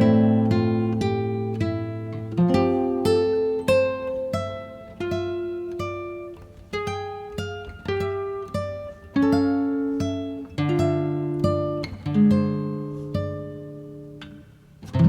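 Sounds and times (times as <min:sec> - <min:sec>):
acoustic guitar picking notes: 0:00.0 - 0:15.0.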